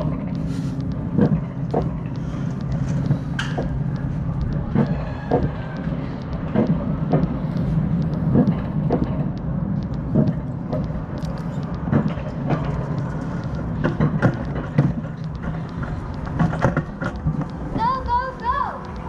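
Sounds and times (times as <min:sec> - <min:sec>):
coaster cart rumbling on track: 0:00.0 - 0:19.0
sharp clacks of cart: 0:00.0 - 0:19.0.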